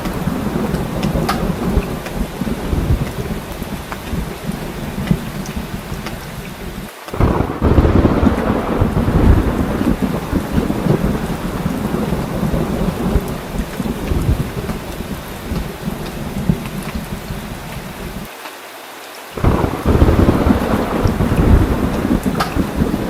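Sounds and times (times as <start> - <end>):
rolling thunder: 0.0 - 18.3, 19.4 - 23.0
heavy rain: 0.0 - 23.0.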